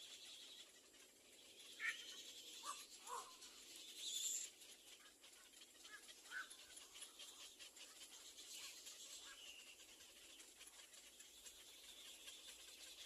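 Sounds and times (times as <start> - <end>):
nestling birds chirping: 0.0 - 13.0.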